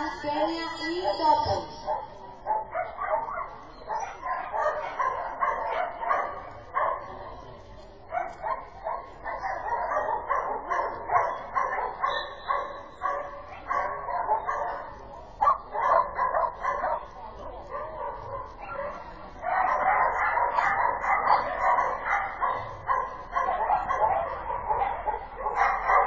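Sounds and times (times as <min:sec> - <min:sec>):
dog barking: 0:01.8 - 0:07.4, 0:08.1 - 0:26.0.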